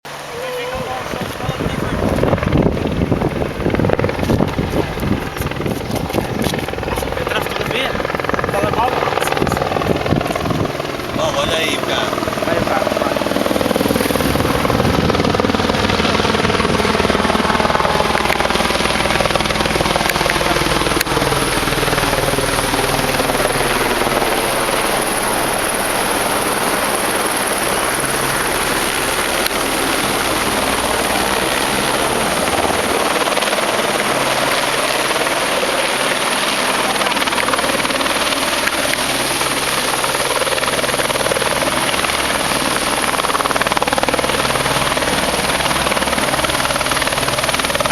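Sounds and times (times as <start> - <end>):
helicopter rotor and engine: 0.0 - 47.9.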